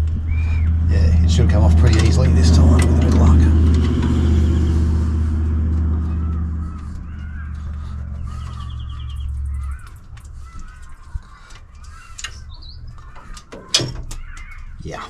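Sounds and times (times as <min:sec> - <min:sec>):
birds chirping: 0:00.0 - 0:15.0
vehicle engine hum: 0:00.0 - 0:15.0.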